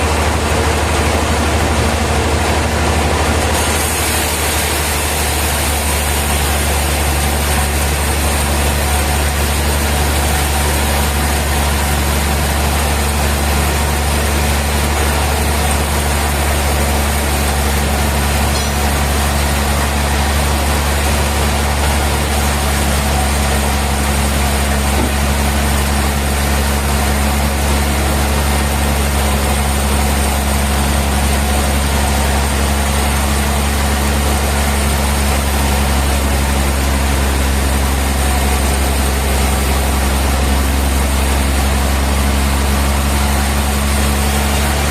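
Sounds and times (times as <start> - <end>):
sawmill machinery drone: 0.0 - 44.9.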